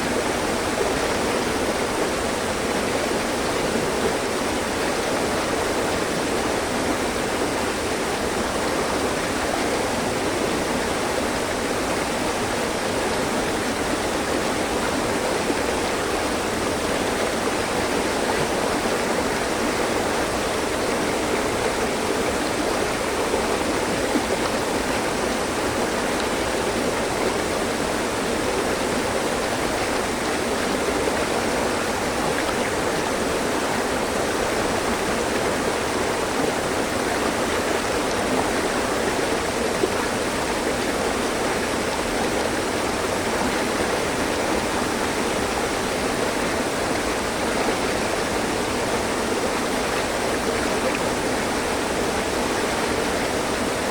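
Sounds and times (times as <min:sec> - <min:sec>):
stream flowing over rocks: 0:00.0 - 0:53.9.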